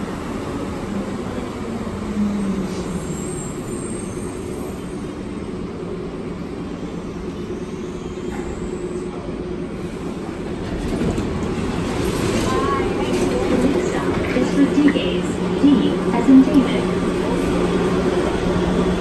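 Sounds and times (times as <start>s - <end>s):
train rumbling into station: 0.0s - 19.0s.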